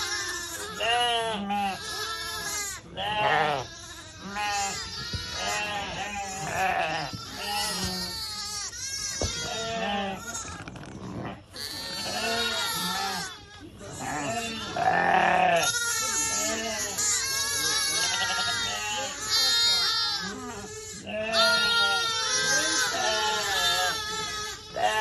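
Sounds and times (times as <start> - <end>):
sheep and lambs bleating: 0.0 - 25.0.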